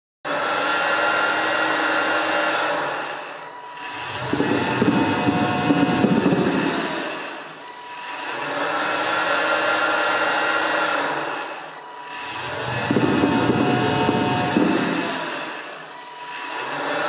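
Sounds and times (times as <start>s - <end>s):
electric motor whirring: 0.3s - 17.0s.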